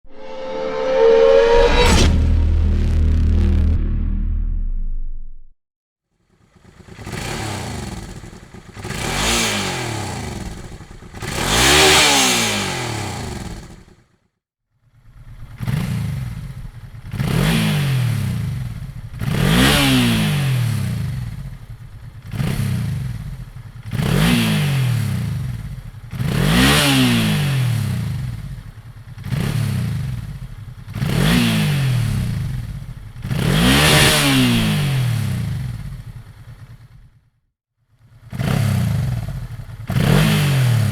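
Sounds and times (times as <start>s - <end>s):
motorcycle engine revving: 6.5s - 14.1s, 14.9s - 37.3s, 38.0s - 40.9s.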